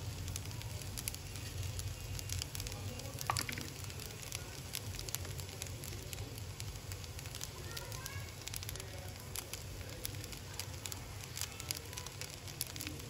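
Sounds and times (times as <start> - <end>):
rice sizzling in a frying pan: 0.0 - 13.0
small pops and crackles: 0.0 - 13.0.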